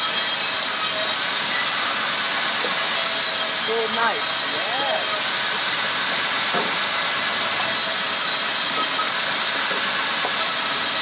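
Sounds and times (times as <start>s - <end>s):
woodworking machine whirring: 0.0s - 11.0s.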